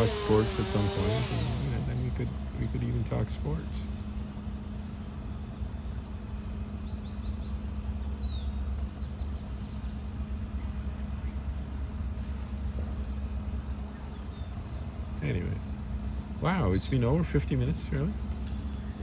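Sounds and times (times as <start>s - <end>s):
constant hum: 0.0s - 19.0s
low background rumble: 0.0s - 19.0s.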